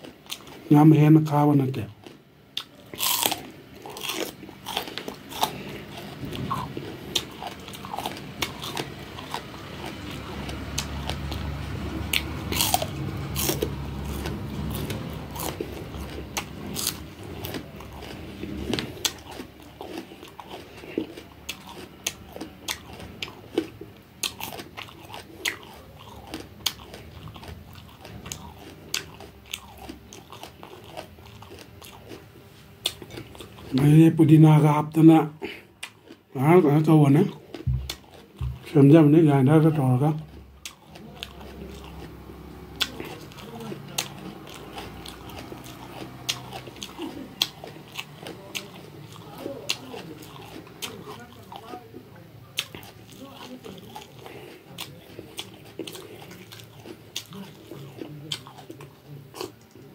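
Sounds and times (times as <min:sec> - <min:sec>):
person crunching and chewing: 0:00.0 - 0:59.9.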